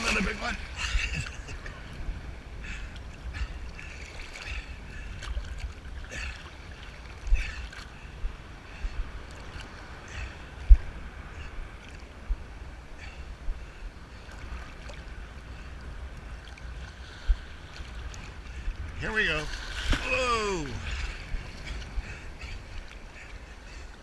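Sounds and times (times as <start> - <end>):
sea water sloshing and splashing: 0.0 - 12.2, 12.8 - 23.9
wind buffeting microphone: 0.0 - 24.0.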